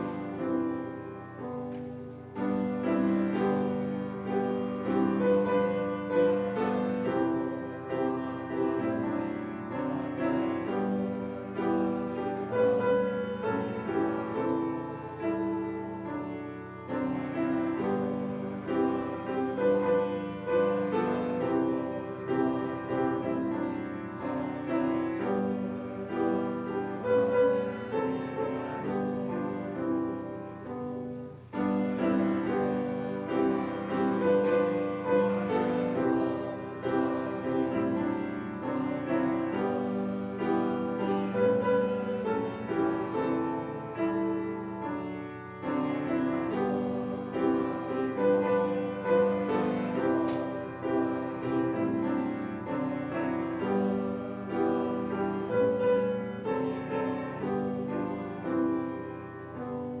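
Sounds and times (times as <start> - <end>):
grand piano playing hymn chords: 0.0 - 60.0.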